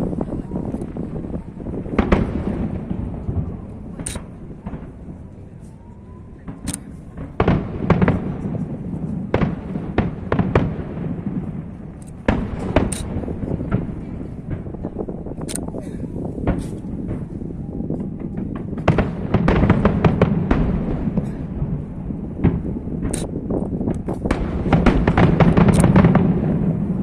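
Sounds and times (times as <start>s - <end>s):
fireworks bursting: 0.0s - 27.0s
low rumble of echoes: 0.0s - 27.0s.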